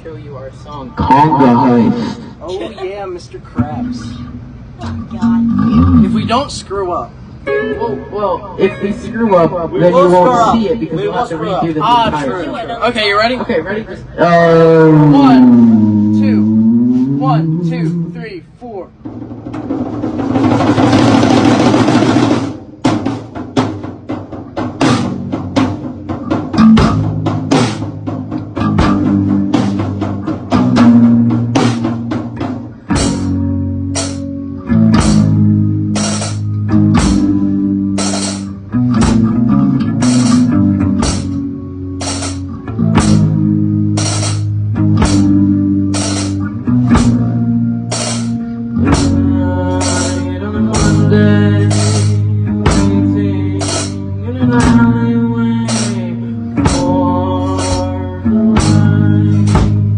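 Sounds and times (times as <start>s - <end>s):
steady drum beat: 0.0s - 7.0s, 14.5s - 59.9s
heavy bass notes: 0.0s - 12.3s, 14.1s - 59.9s
rock band playing live: 0.9s - 6.4s, 7.1s - 12.2s, 18.9s - 59.9s.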